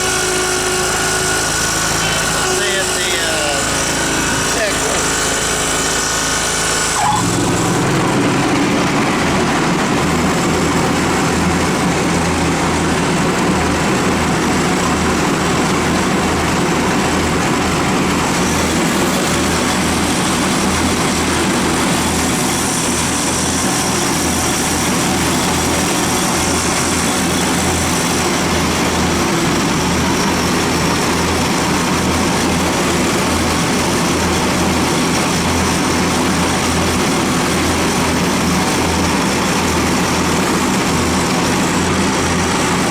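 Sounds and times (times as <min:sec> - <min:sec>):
mower engine pulsing: 0:00.0 - 0:42.9.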